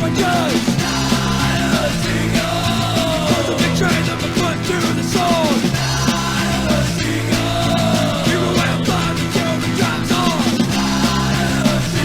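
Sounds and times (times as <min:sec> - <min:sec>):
bending guitar line: 0:00.0 - 0:12.0
distorted guitar chords: 0:00.0 - 0:12.0
steady drum beat: 0:00.0 - 0:12.0.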